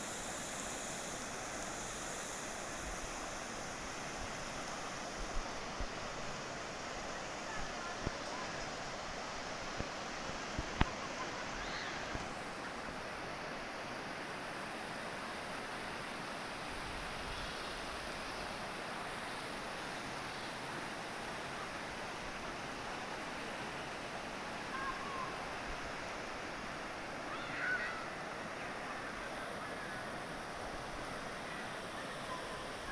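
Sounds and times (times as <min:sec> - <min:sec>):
flowing water rushing: 0:00.0 - 0:32.9.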